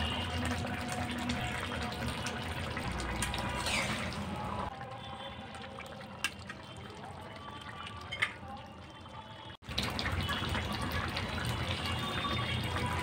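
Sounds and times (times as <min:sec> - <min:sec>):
water pouring into frying pan: 0:00.0 - 0:13.0.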